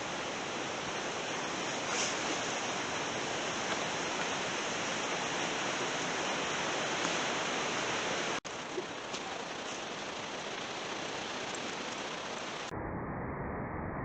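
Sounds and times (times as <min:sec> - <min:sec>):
outdoor rushing hiss: 0:00.0 - 0:12.7.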